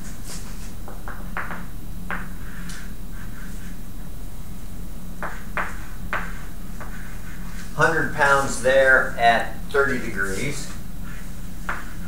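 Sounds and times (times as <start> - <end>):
chalk tapping and scraping: 0.0 - 3.8, 5.2 - 12.0
steady low hum: 0.0 - 12.0.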